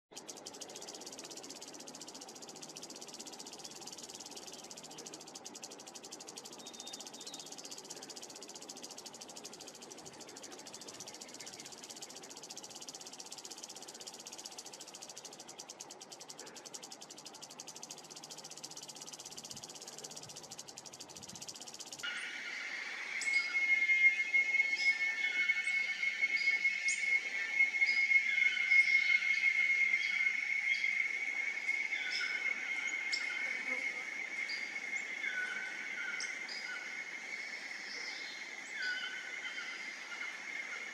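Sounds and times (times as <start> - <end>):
insects chirring: 0.1 - 40.9.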